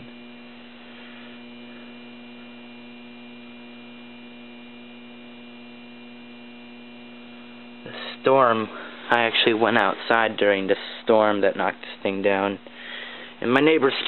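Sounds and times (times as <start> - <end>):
street lamp electrical hum: 0.0 - 14.0.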